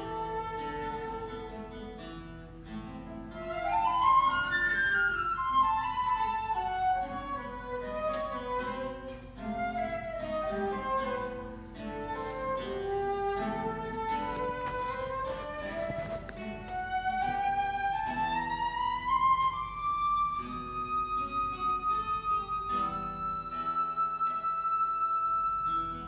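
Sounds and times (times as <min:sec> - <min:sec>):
flute melody: 0:00.0 - 0:26.0
plucked guitar notes: 0:00.0 - 0:26.0.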